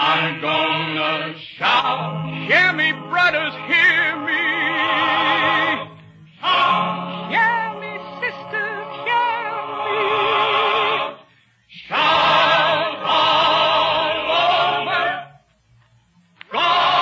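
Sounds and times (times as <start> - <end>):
operatic singing with vibrato: 0.0 - 15.5, 16.4 - 17.0.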